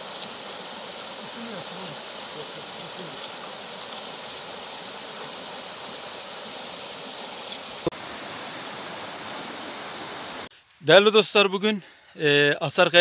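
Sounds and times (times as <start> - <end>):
stream rushing over stones: 0.0 - 10.5.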